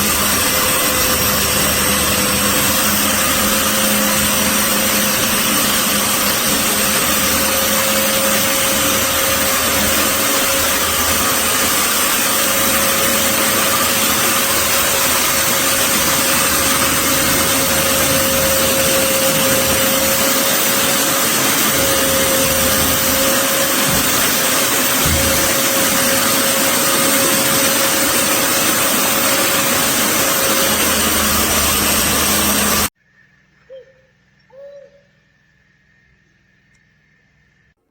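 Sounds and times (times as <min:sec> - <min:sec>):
electric drywall sander running: 0:00.0 - 0:33.0.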